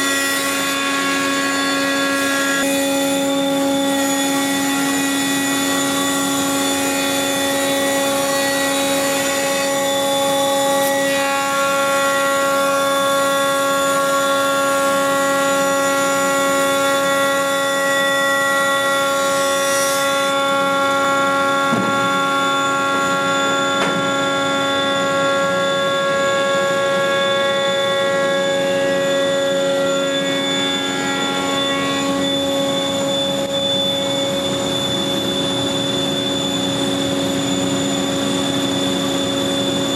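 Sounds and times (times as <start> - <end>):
planer cutterheads whining: 0.0 - 39.9.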